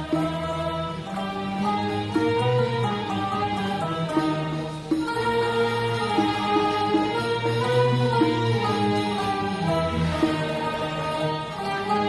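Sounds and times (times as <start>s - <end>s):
instrumental ensemble melody: 0.0s - 12.0s.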